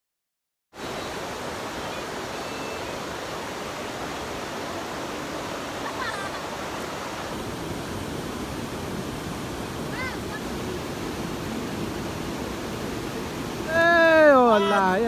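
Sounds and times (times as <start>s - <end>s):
waterfall rushing: 0.8s - 15.0s.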